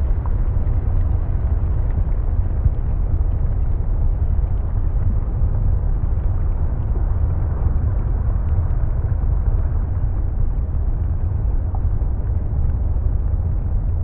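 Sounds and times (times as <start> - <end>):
deep rumble: 0.0 - 14.0.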